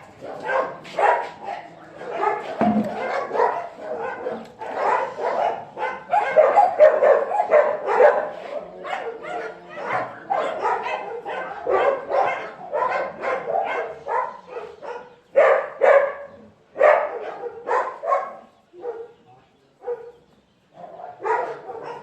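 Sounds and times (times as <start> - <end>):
dogs barking: 0.0 - 22.0.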